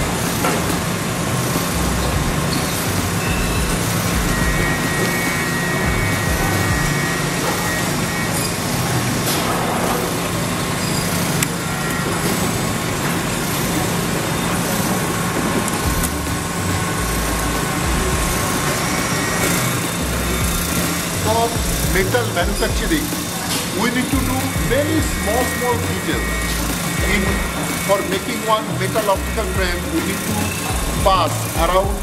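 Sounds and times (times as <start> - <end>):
faint machinery whines: 0.0 - 32.0
low machinery hum: 0.0 - 32.0
machinery hiss: 0.0 - 32.0.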